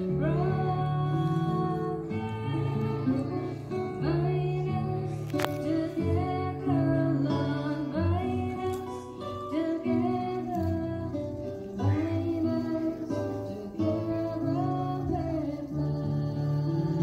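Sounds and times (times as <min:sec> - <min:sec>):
person singing: 0:00.0 - 0:17.0
plucked acoustic guitar: 0:00.0 - 0:17.0.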